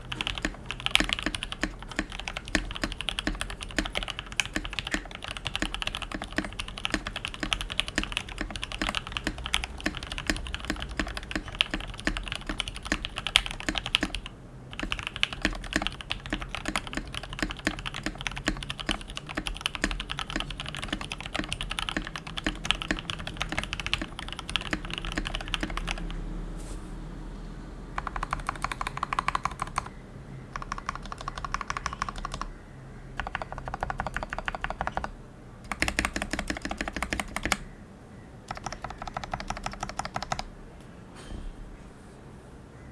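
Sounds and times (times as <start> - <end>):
mechanical keyboard typing: 0.0 - 26.2, 28.0 - 29.9, 30.5 - 32.6, 33.2 - 37.7, 38.5 - 40.5.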